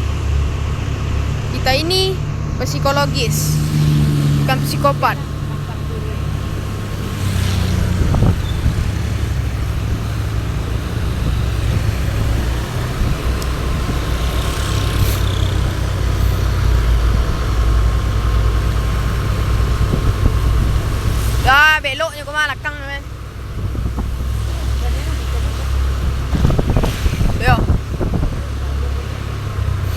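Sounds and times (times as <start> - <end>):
road noise: 0.0 - 29.9
vehicle engine droning: 0.0 - 29.9.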